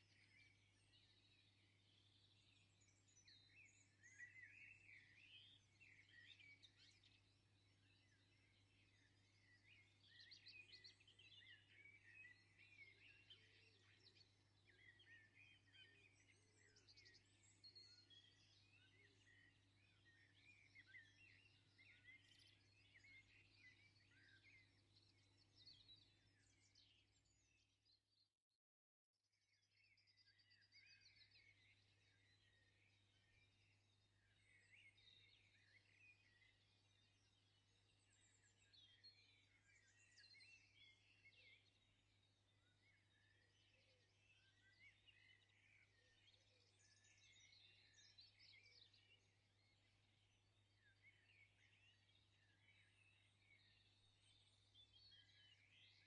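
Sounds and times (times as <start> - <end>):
small birds chirping faintly: 0.0 - 28.4, 29.3 - 56.0.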